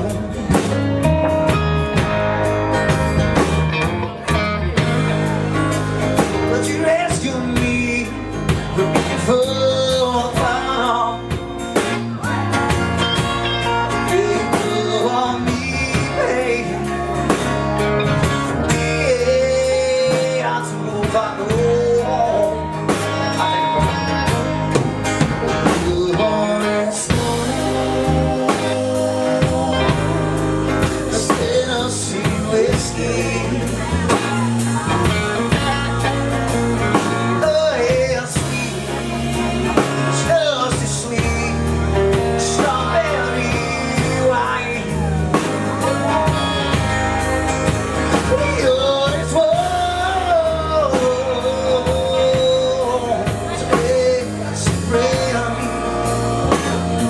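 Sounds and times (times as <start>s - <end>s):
country band playing ballad: 0.0s - 57.0s
sliding lead guitar: 0.0s - 57.0s.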